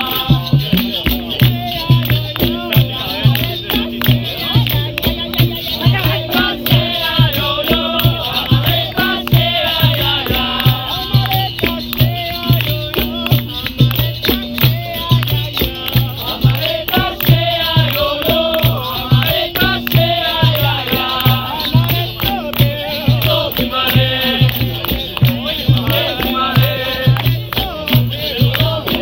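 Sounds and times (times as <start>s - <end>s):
call-and-response singing: 0.0s - 29.0s
hand percussion: 0.0s - 29.0s
low drum beat: 0.0s - 29.0s.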